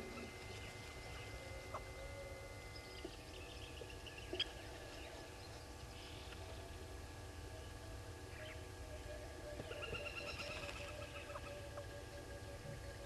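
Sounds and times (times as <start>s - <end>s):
distant bird calls: 0.0s - 13.0s
low steady rumble: 0.0s - 13.0s.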